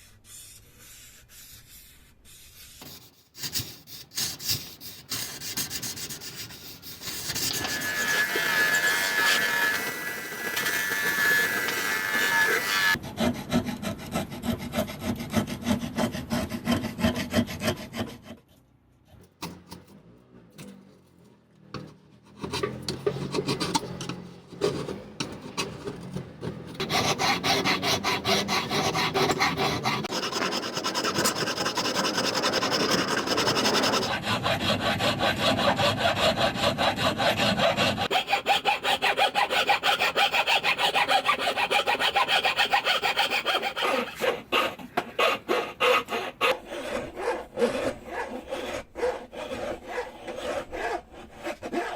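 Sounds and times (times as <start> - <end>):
rasping and sawing wood: 0.2 - 19.2, 22.2 - 51.9.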